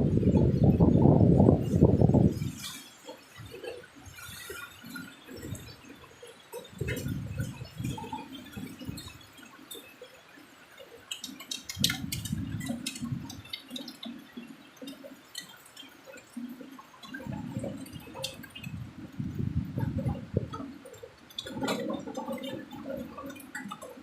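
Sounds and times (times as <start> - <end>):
rainwater splashing and gurgling: 0.0 - 24.0
water drips and taps: 2.4 - 24.0.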